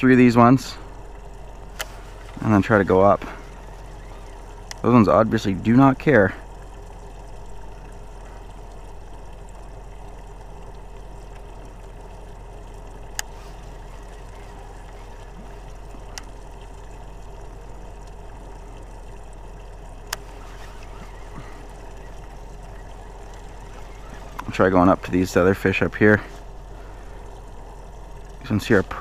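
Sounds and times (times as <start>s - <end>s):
boat motor hum: 0.0s - 29.0s.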